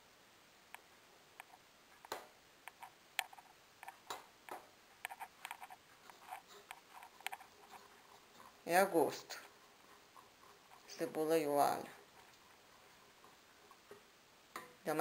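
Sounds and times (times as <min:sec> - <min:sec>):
meat frying crackling: 0:00.6 - 0:15.0.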